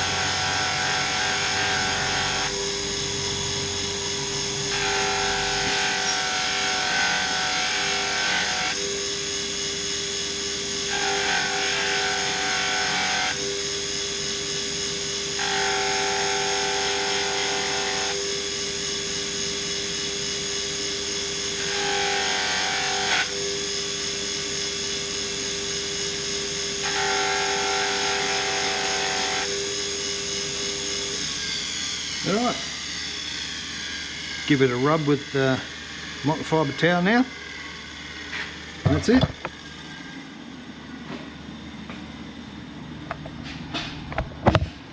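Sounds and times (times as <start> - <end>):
power tool motor running: 0.0 - 44.7.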